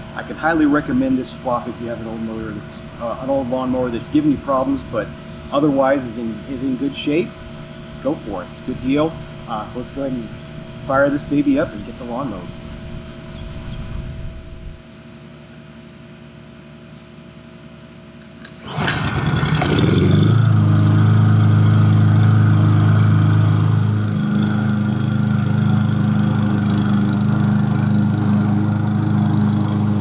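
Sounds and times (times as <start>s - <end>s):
lawn mower engine running: 0.0s - 13.4s, 18.2s - 30.0s.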